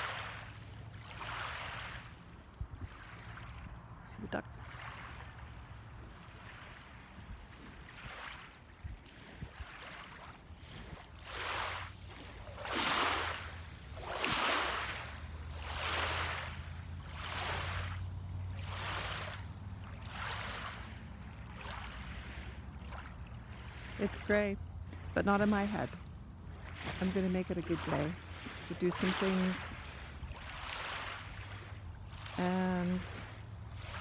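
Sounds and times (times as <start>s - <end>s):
small waves washing onto beach: 0.0s - 34.0s.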